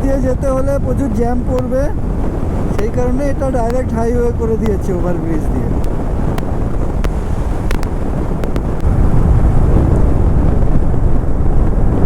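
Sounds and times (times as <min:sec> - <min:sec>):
road noise: 0:00.0 - 0:12.0
wind rushing over microphone: 0:00.0 - 0:12.0.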